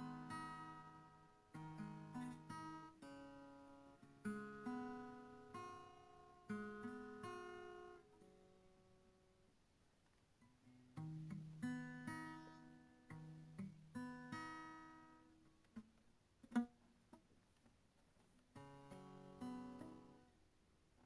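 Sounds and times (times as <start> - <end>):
acoustic guitar chords: 0.0 - 9.3, 10.6 - 16.9, 18.5 - 20.4.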